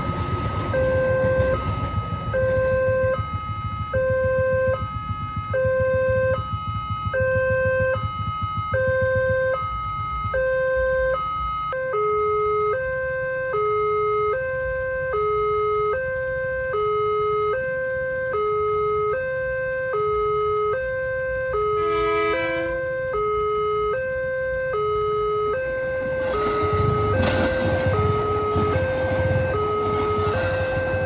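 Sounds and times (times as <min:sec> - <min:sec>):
level crossing alarm two-tone: 0:00.3 - 0:31.0.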